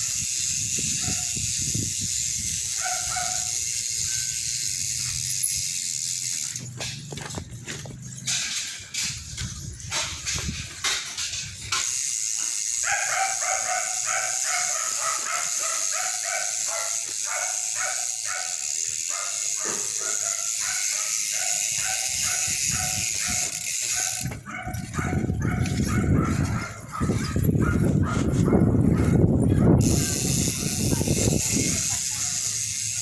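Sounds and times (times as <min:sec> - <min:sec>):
bicycle hub ratcheting buzz: 0:00.0 - 0:33.0.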